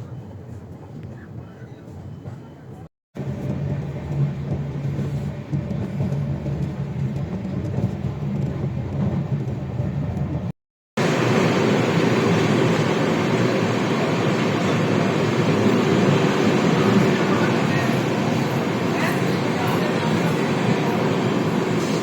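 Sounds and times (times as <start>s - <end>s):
passenger train running: 0.0s - 22.0s.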